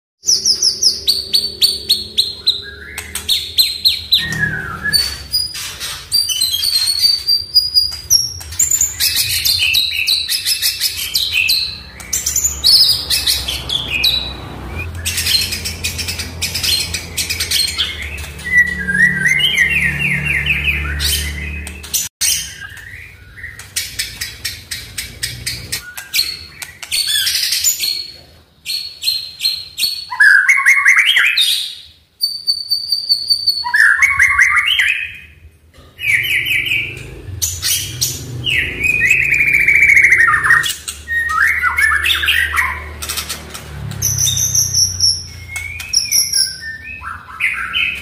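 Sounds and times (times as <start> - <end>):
bird singing varied song: 0.2 - 35.4, 36.0 - 48.0.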